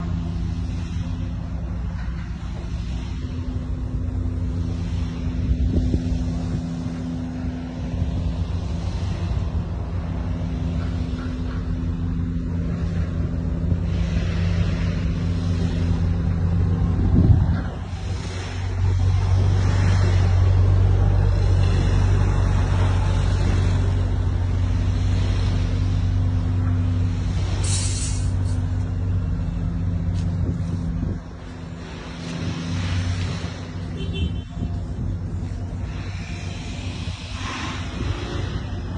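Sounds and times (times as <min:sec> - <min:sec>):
road noise: 0:00.0 - 0:38.9
truck engine running: 0:00.0 - 0:38.9.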